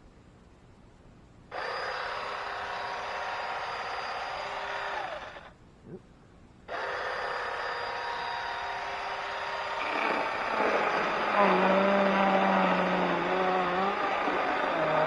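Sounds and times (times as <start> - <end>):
chainsaw motor whining: 1.5 - 5.5, 6.7 - 15.0
chainsaw cutting into log: 1.6 - 5.5, 6.7 - 15.0.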